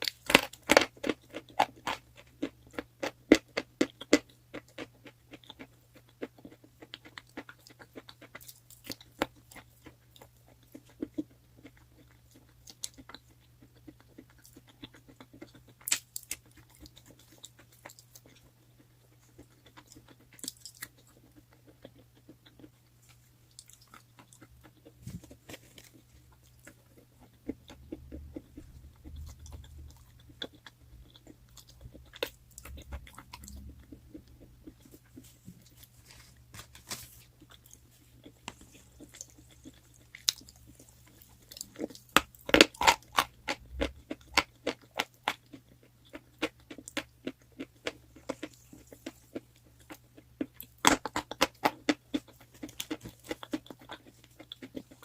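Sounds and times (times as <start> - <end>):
chewing crunchy chalk: 0.0 - 55.0.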